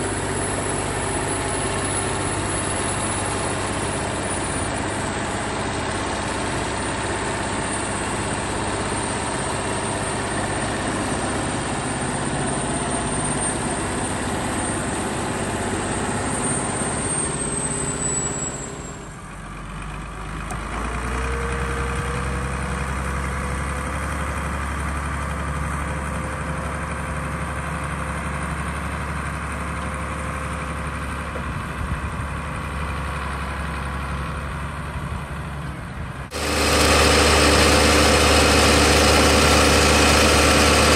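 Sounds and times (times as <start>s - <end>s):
deep engine drone: 0.0s - 25.8s, 33.8s - 40.9s
tractor diesel engines running: 0.0s - 40.9s.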